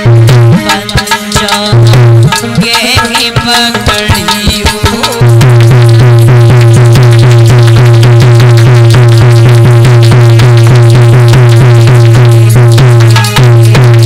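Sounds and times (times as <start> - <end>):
hand drum drummed fast: 0.0 - 14.0.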